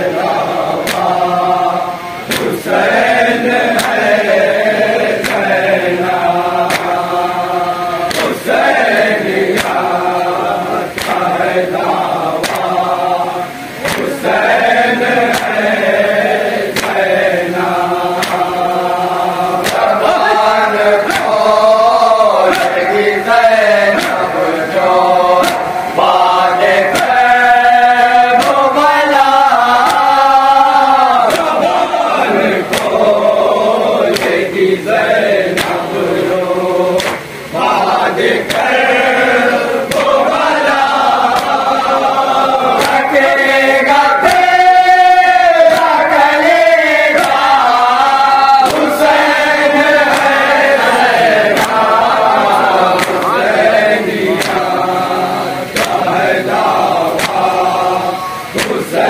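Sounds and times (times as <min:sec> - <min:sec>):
men chanting a lament: 0:00.0 - 0:59.0
reciter at a microphone: 0:00.0 - 0:59.0
hands slapping chests: 0:00.8 - 0:01.2, 0:02.3 - 0:03.0, 0:03.7 - 0:04.4, 0:05.1 - 0:07.3, 0:08.1 - 0:10.3, 0:10.9 - 0:13.0, 0:13.8 - 0:18.8, 0:19.5 - 0:33.3, 0:34.0 - 0:36.0, 0:37.0 - 0:54.9, 0:55.7 - 0:59.0.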